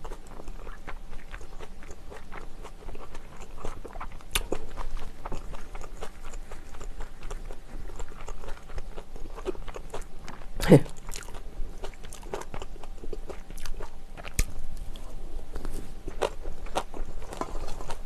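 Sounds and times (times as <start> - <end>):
person chewing with wet crunches: 0.0 - 18.0.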